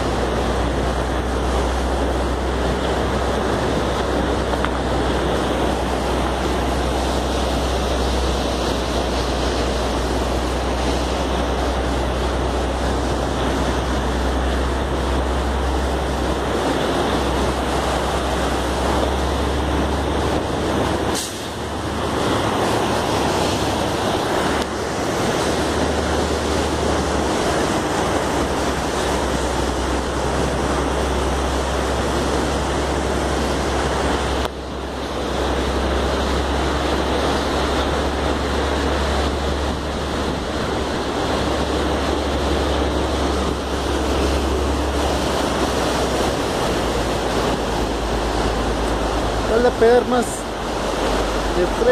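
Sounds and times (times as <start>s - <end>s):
wind on microphone: 0.0s - 49.5s
river rushing: 0.0s - 51.9s.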